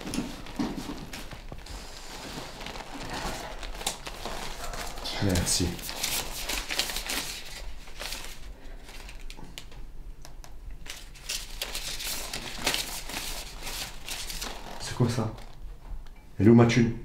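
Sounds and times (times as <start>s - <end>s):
banknotes rustling and crinkling: 0.0s - 9.8s, 10.8s - 15.6s.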